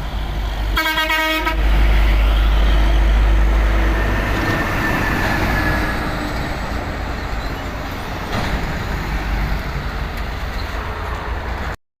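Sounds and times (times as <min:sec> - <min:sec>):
heavy trucks passing: 0:00.0 - 0:11.8.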